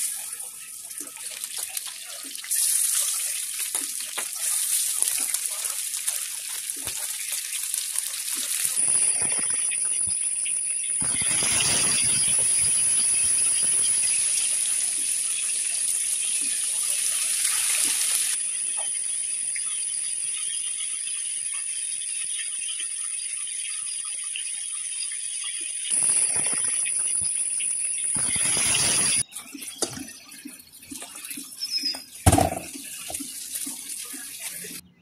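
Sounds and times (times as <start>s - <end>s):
fish sizzling in hot oil: 0.0s - 34.8s.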